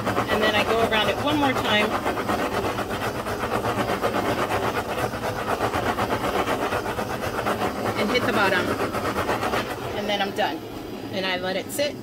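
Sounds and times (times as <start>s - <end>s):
torch flame hissing: 0.0s - 12.0s.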